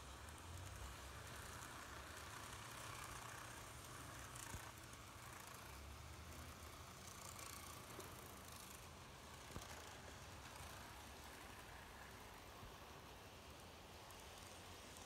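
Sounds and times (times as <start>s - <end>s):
model train motor hum: 0.0s - 15.0s
wheels rolling on track: 0.0s - 15.0s.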